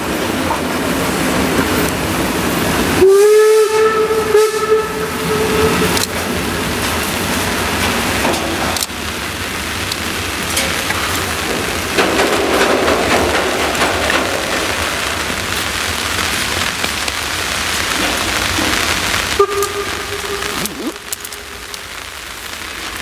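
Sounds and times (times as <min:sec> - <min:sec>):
freight train rumbling: 0:00.0 - 0:23.0
pouring rain: 0:00.0 - 0:23.0.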